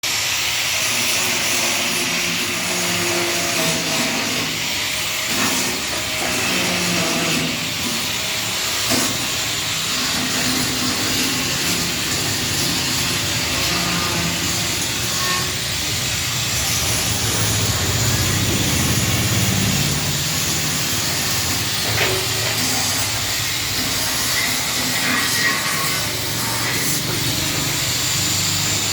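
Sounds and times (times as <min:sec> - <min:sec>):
machine hissing and humming: 0:00.0 - 0:28.9.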